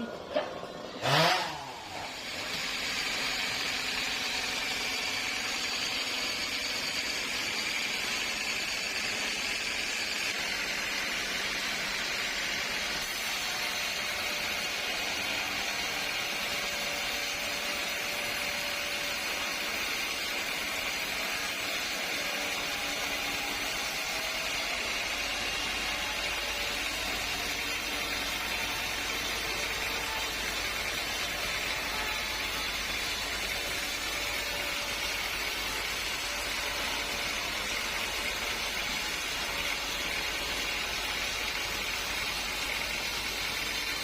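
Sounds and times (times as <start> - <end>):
sawmill machinery running: 0.0 - 44.0.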